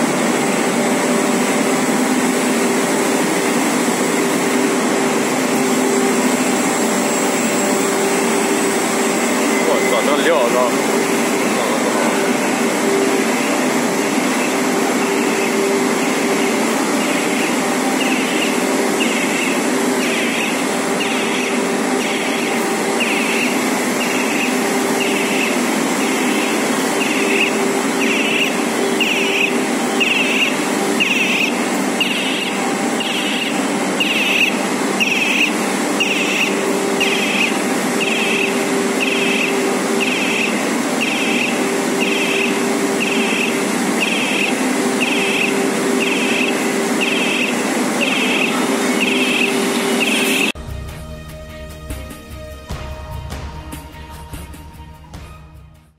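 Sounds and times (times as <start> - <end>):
higher-pitched machine pulse: 0.0 - 53.6
machinery humming: 0.0 - 55.6.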